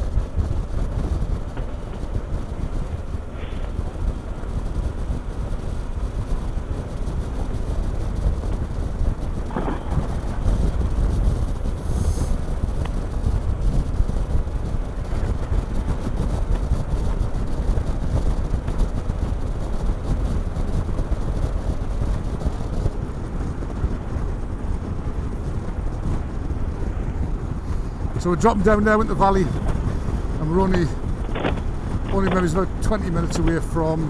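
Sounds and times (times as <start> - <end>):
motorcycle engine rumble: 0.0 - 34.0
road noise: 0.0 - 34.0
wind noise on microphone: 0.0 - 34.0.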